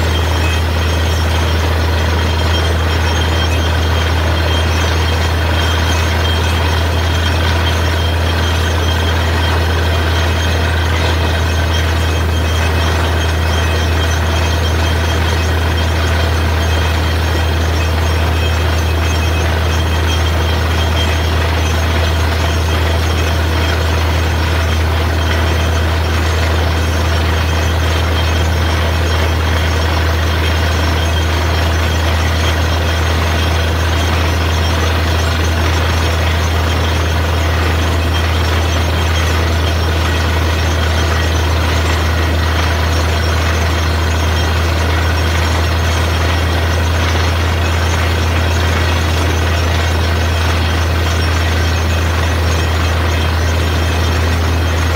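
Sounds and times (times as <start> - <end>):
drilling rig engine humming: 0.0 - 54.9.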